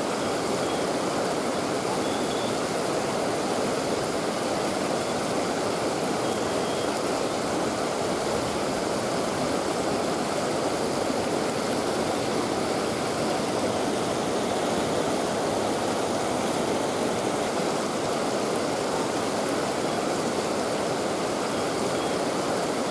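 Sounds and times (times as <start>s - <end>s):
water rushing at a dam: 0.0s - 22.9s.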